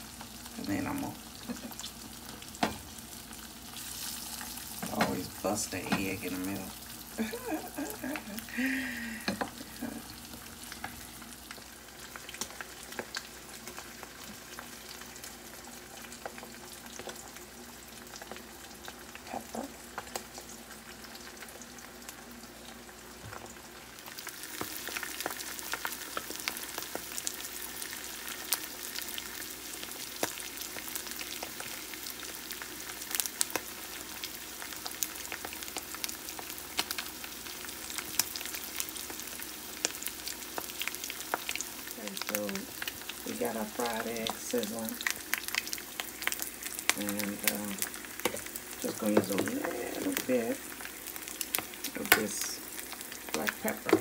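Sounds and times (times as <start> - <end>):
eggs sizzling in a pan: 0.0 - 54.0.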